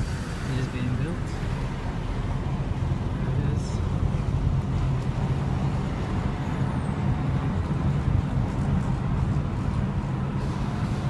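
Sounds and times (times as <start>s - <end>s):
car engine drone: 0.0s - 11.0s
road noise: 0.0s - 11.0s.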